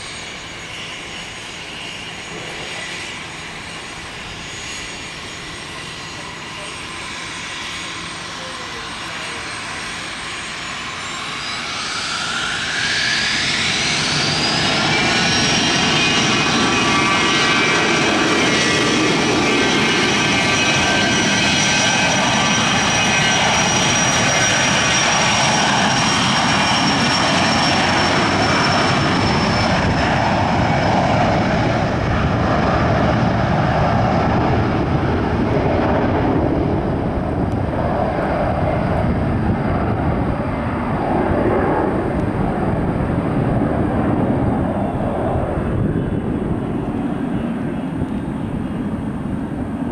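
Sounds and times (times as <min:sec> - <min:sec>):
jet engines spooling up: 0:00.0 - 0:49.9.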